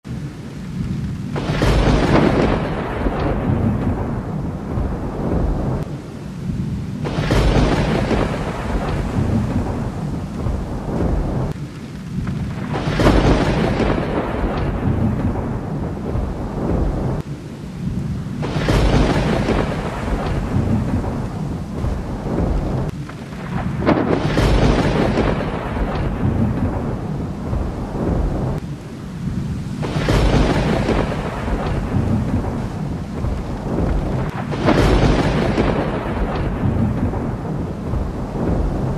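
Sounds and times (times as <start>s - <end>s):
rolling thunder rumble: 0.0s - 38.9s
thunder claps: 0.0s - 38.9s.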